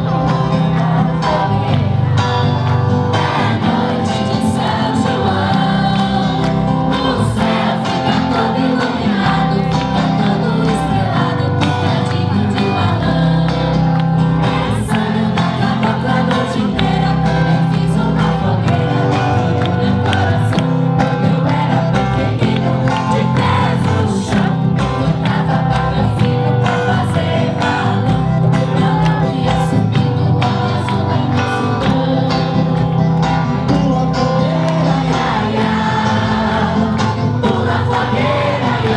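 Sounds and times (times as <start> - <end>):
group singing folk song: 0.0 - 38.9.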